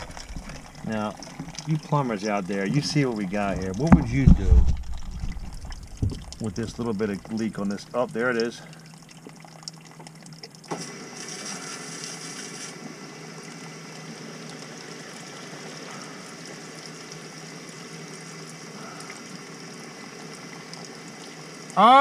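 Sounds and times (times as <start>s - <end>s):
water running down drain pipe: 0.0s - 22.0s.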